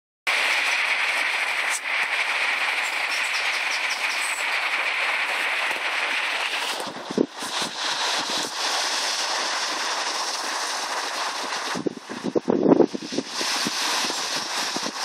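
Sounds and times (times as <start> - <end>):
river rushing over stones: 0.3 - 12.1, 13.0 - 15.0.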